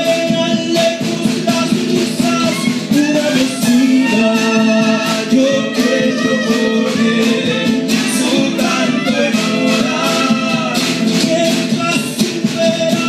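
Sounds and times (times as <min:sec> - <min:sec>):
acoustic band playing: 0:00.0 - 0:13.0.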